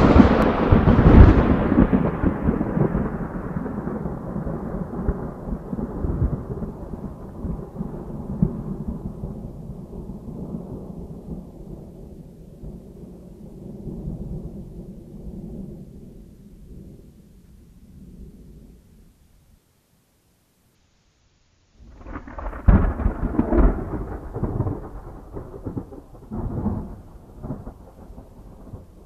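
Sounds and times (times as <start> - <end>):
thunder clap and rumble: 0.0 - 17.1, 21.8 - 29.0.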